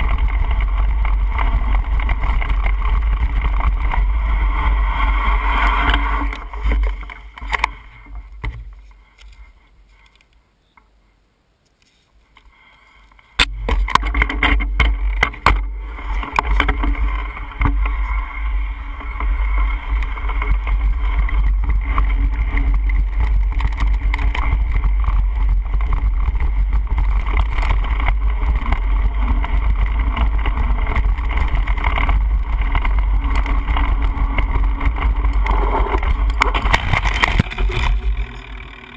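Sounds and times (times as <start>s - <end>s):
wind rumble on microphone: 0.0s - 9.3s, 13.4s - 38.7s
bicycle tyre and frame rattle: 0.0s - 10.3s, 11.9s - 38.9s
bike clicks and knocks: 0.0s - 10.9s, 13.3s - 38.9s.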